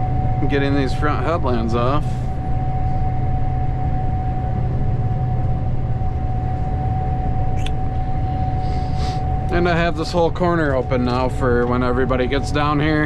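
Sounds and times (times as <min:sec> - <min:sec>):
combine engine and machinery drone: 0:00.0 - 0:13.0
high whine: 0:00.0 - 0:13.0.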